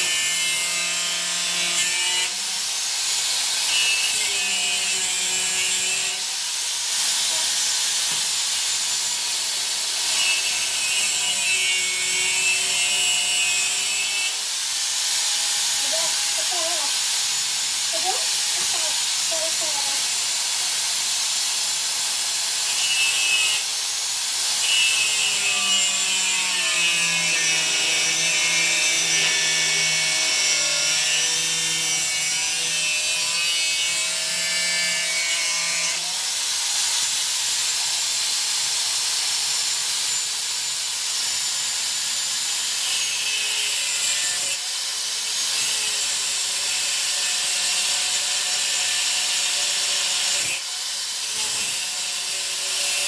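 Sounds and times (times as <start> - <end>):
power tool working on steel: 0.0 - 53.0.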